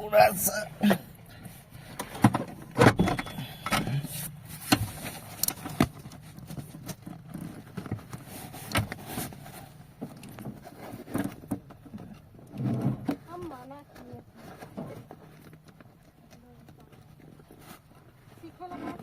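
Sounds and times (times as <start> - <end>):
hands working on car wiring: 0.0 - 19.0.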